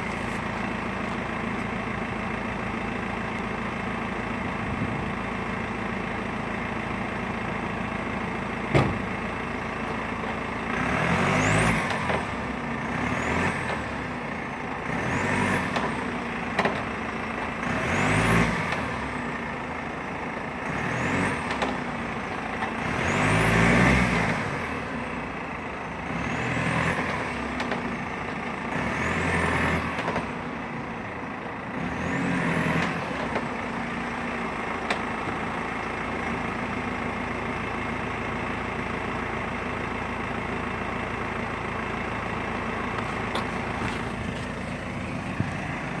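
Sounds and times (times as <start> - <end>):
diesel car engine and road noise: 0.0 - 46.0.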